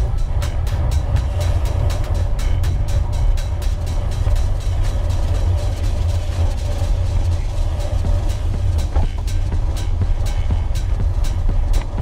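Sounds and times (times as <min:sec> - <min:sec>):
bike tyre noise on trail: 0:00.0 - 0:12.0
wind buffeting microphone: 0:00.0 - 0:12.0.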